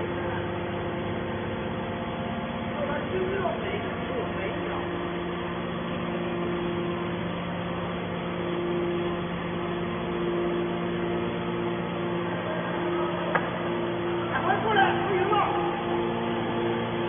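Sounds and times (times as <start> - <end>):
electric motor and pump humming: 0.0 - 17.0.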